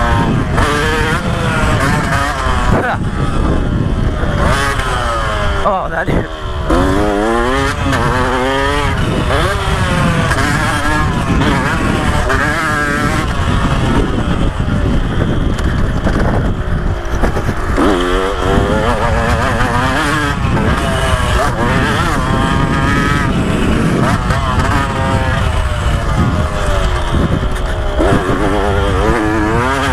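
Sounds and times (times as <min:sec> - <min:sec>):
two-stroke dirt bike revving: 0:00.0 - 0:29.9.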